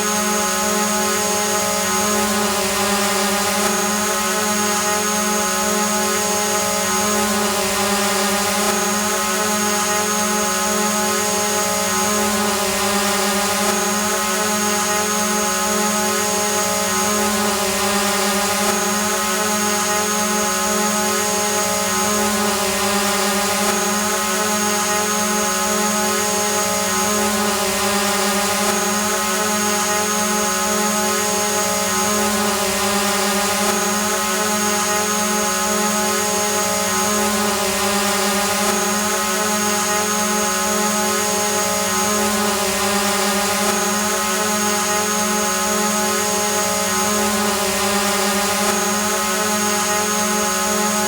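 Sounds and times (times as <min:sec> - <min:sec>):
drone buzzing hum: 0:00.0 - 0:51.0.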